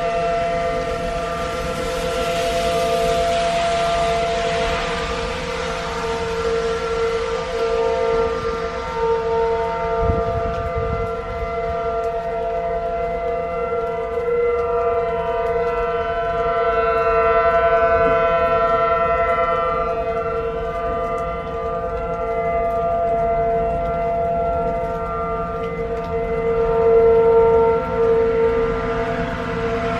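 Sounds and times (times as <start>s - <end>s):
warning siren steady tone: 0.0s - 29.9s.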